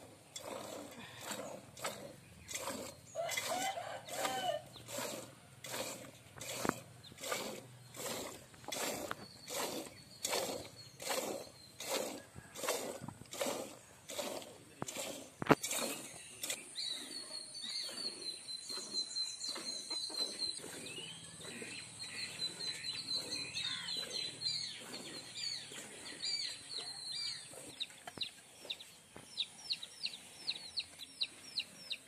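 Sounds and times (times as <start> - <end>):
small birds chirping: 0.0 - 12.6, 13.9 - 32.0.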